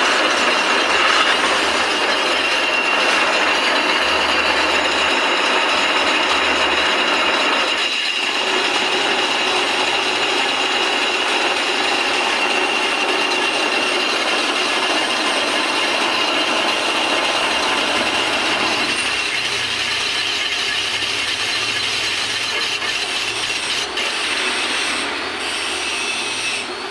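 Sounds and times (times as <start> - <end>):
metal lathe running with whine: 0.0 - 26.9.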